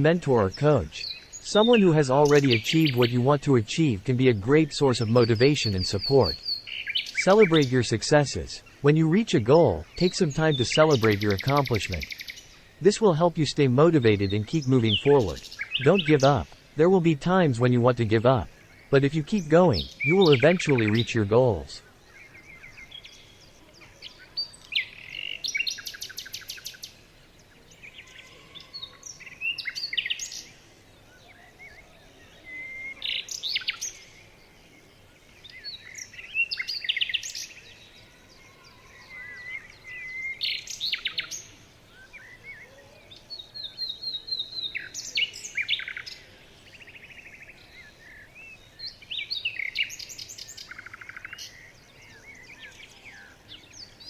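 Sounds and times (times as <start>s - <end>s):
songbirds trilling and chirping: 0.0s - 54.0s.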